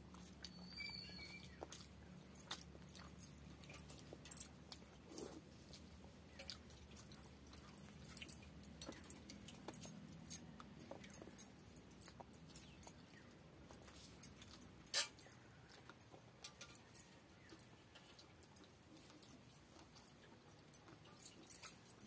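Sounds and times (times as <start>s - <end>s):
chewing: 0.0s - 22.0s
bangles clinking: 0.2s - 22.0s.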